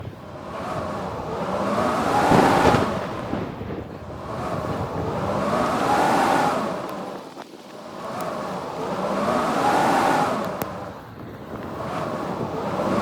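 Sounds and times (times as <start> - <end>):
howling blizzard wind: 0.0 - 13.0.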